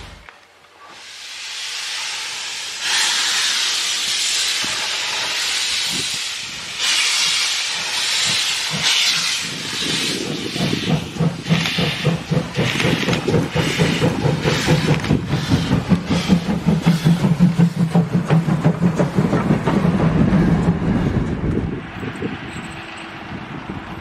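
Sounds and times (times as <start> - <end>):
steam hissing in beats: 0.8 - 20.0
train wheels clattering: 2.8 - 24.0.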